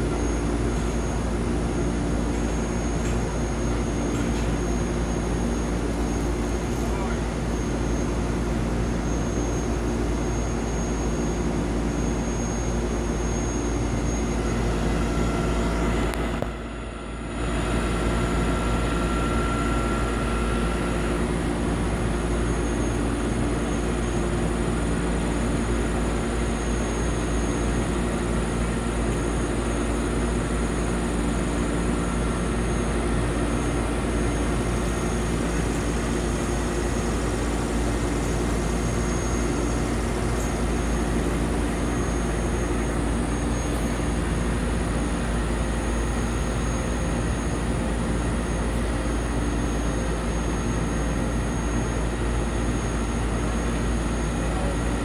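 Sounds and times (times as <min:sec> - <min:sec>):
faint high whine: 0:00.0 - 0:55.0.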